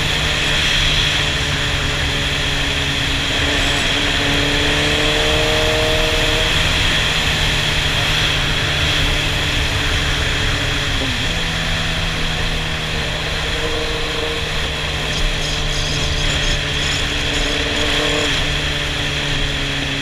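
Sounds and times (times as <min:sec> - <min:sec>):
motorcycle engine running: 0:00.0 - 0:20.0
wind and road rush: 0:00.0 - 0:20.0.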